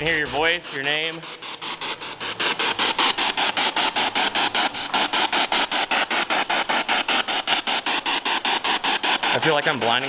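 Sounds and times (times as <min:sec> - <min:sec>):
radio static bursts stuttering: 0:00.0 - 0:10.0.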